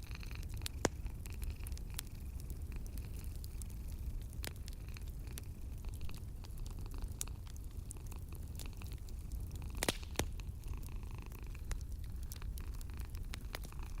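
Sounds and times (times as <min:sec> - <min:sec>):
cat purring: 0:00.0 - 0:14.0
wood fire crackling and popping: 0:00.0 - 0:14.0.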